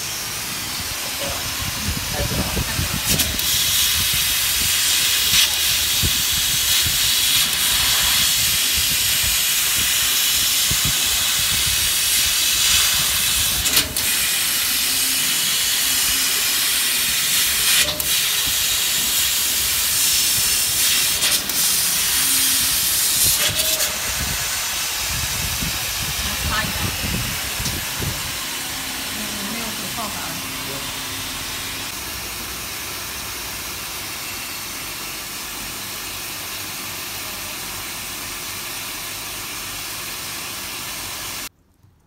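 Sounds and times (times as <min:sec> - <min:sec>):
laser cutter air hiss: 0:00.0 - 0:41.5.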